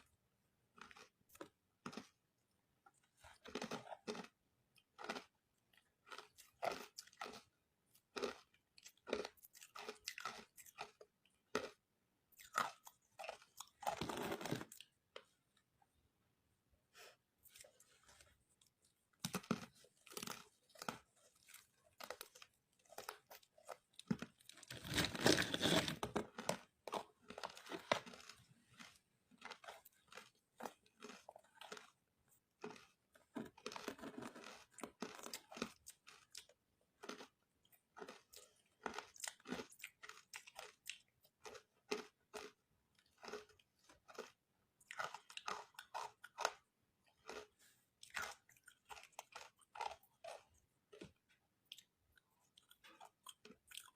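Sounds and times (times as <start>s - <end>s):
ice crunching being chewed: 0.0s - 15.7s, 17.4s - 53.9s.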